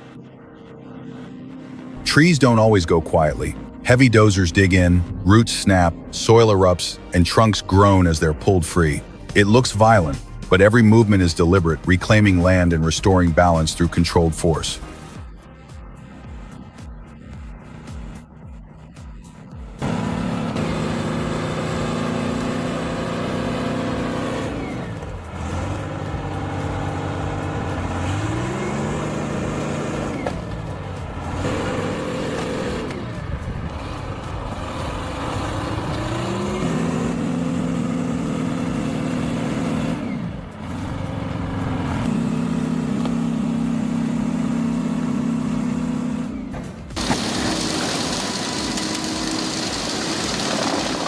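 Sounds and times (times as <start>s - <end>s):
diesel engine revving under load: 0.0s - 51.0s.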